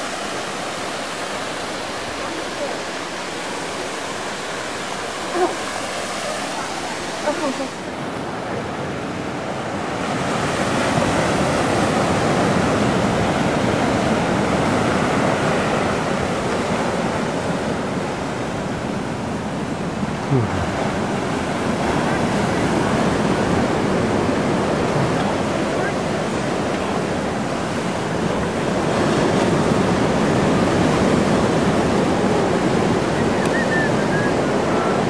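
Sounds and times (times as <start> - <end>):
surf washing over rocks: 0.0 - 35.0.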